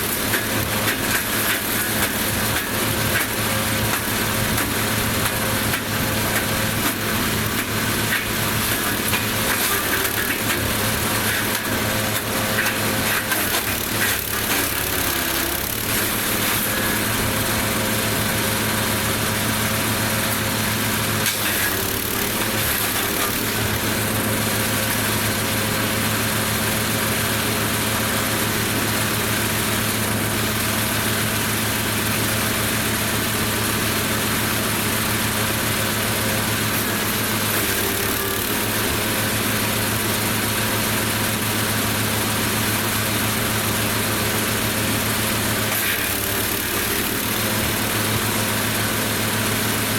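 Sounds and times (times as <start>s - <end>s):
wood chipper engine running: 0.0s - 49.9s.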